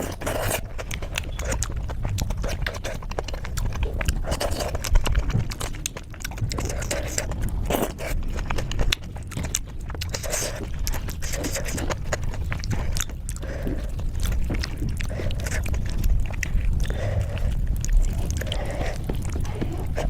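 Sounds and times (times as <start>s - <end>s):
low background rumble: 0.0s - 20.0s
wet chewing and lip-smacking: 0.0s - 20.0s.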